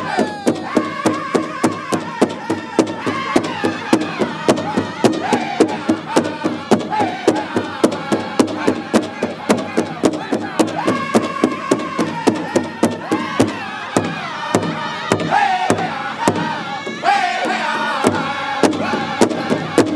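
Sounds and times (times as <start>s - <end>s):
bass drum struck with sticks: 0.0s - 19.9s
men singing in unison: 0.0s - 19.9s.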